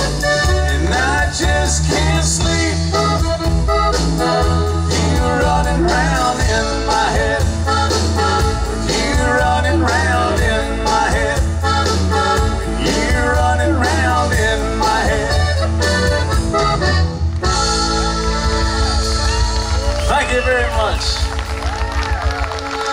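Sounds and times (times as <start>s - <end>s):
accordion lead: 0.0s - 21.2s, 22.4s - 22.9s
bass and drum beat: 0.0s - 22.9s.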